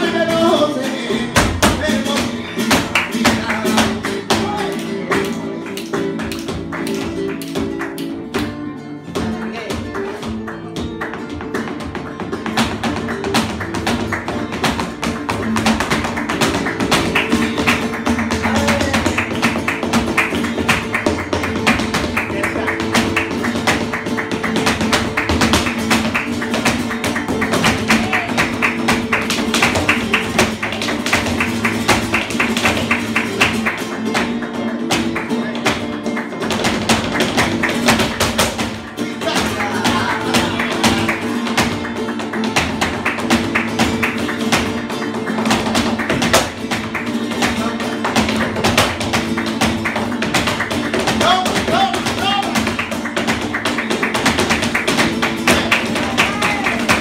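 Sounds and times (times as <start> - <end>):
flamenco guitar playing: 0.0 - 57.0
rhythmic hand-clapping: 0.0 - 57.0.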